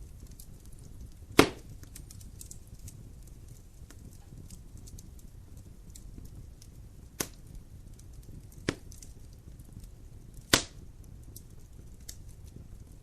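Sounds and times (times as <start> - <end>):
low rumble of flames: 0.0 - 13.0
sharp fire pops: 0.0 - 13.0
wood fire crackling: 0.0 - 13.0.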